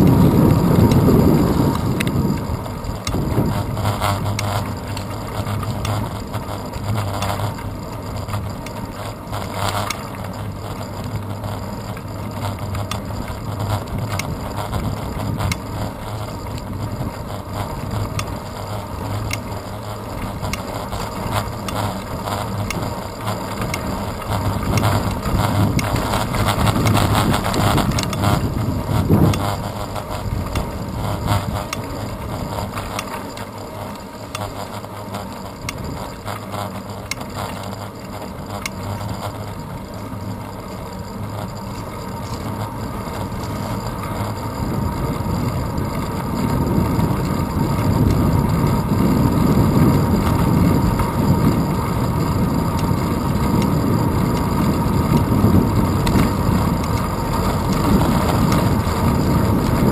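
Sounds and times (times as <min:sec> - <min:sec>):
wind noise: 0:00.0 - 0:37.8, 0:42.2 - 0:59.9
bicycle clicking: 0:00.0 - 0:59.9
tyre rumble and rattle: 0:00.0 - 0:59.9.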